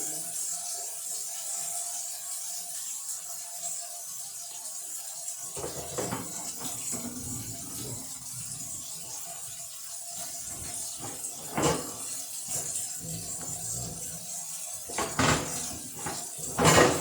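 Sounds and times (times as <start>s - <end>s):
tap water running into sink: 0.0s - 17.0s.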